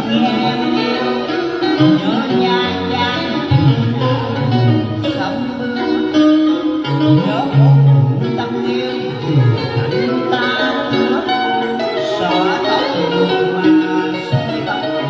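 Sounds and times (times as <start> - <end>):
instrumental guitar music: 0.0 - 15.0.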